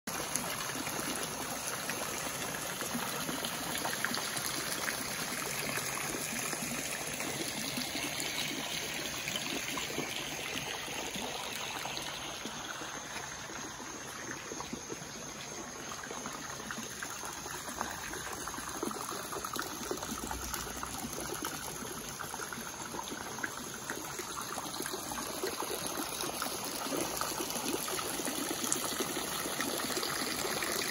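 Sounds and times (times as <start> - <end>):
water splashing over stones: 0.1 - 30.9.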